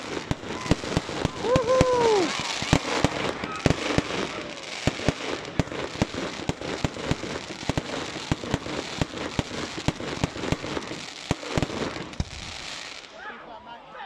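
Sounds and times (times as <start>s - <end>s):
dense firework crackle: 0.0s - 13.2s.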